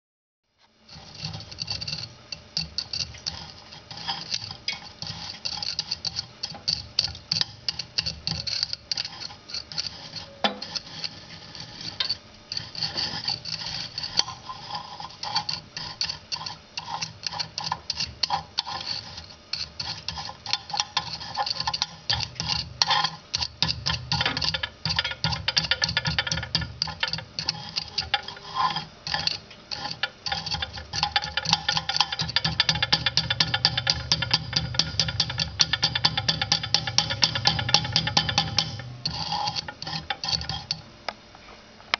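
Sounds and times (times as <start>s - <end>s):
charcoal fire crackling: 0.6s - 41.2s.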